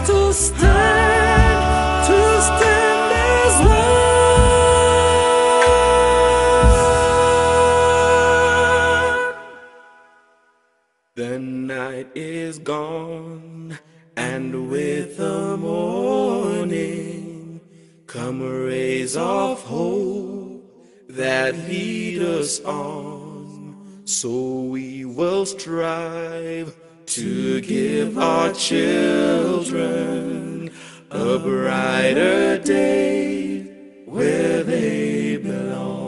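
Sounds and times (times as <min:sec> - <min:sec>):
male a cappella group singing: 0:00.0 - 0:10.0, 0:11.2 - 0:36.0.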